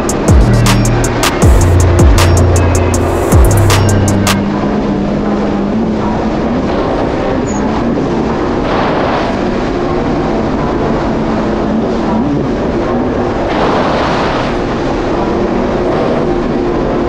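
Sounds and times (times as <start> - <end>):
jet ski engine running: 0.0 - 17.0
water rushing: 0.0 - 17.0
wind: 0.0 - 17.0.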